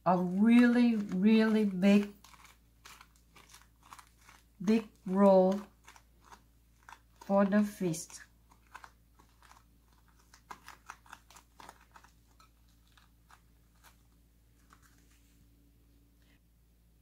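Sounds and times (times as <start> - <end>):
rice paper crinkling: 0.0 - 15.4.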